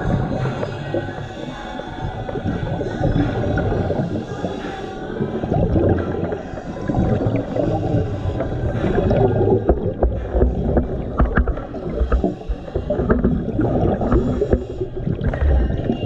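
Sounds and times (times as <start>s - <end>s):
diver breathing through regulator: 0.0s - 15.9s
bubbles gurgling: 0.0s - 16.0s
music from underwater speaker: 0.0s - 16.0s.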